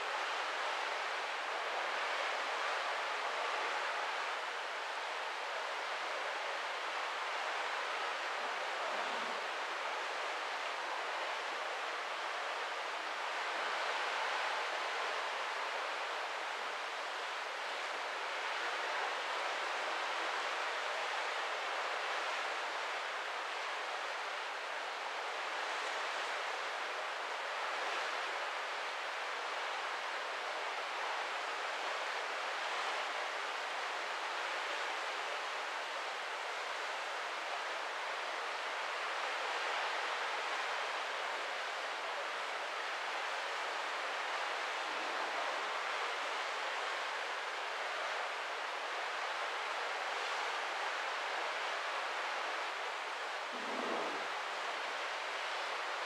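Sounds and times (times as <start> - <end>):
sea water streaming past ship: 0.0 - 56.0.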